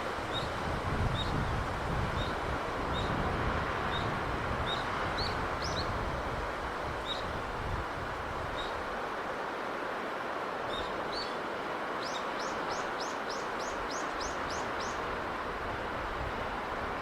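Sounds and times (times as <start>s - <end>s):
rushing sea breeze: 0.0s - 17.0s.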